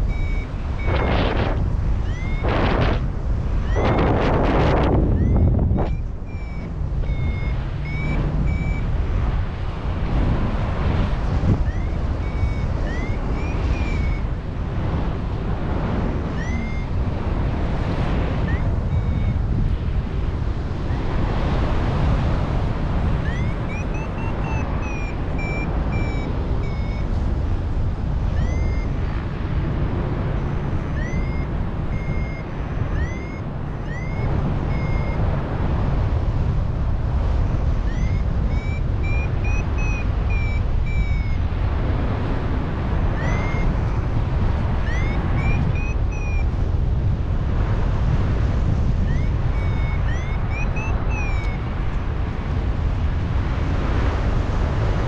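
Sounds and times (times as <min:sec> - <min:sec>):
variometer beeps and chirps: 0:00.0 - 0:55.0
wind on microphone: 0:00.0 - 0:55.0.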